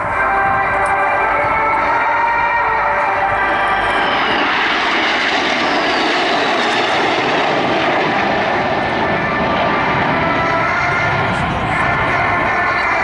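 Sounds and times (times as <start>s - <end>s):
high jet whine: 0.0s - 13.0s
jets passing with loud roar: 0.0s - 13.0s.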